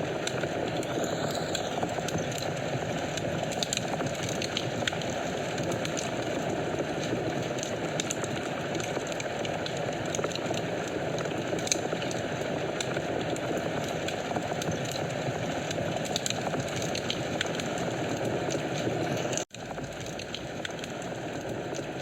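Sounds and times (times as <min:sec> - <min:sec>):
fire crackling and popping: 0:00.0 - 0:22.0
low rush of flames: 0:00.0 - 0:22.0.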